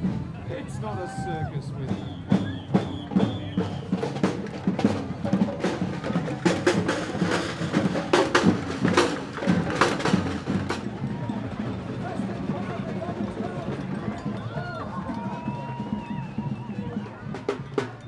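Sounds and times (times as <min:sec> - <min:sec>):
marching snare drums: 0:00.0 - 0:18.0.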